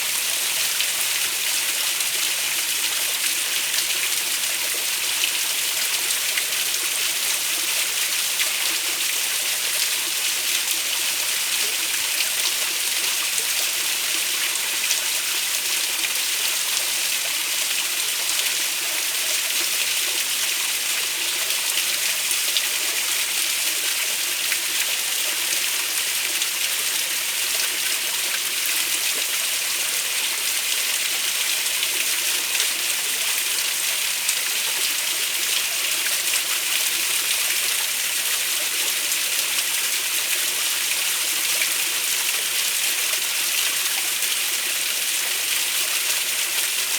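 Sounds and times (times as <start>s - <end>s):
stream water running over rocks: 0.0s - 46.9s.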